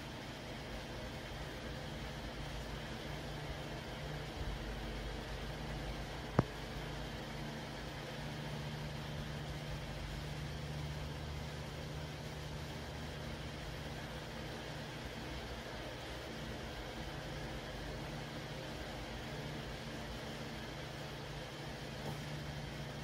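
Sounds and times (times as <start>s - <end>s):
room hum and hiss: 0.0s - 23.0s.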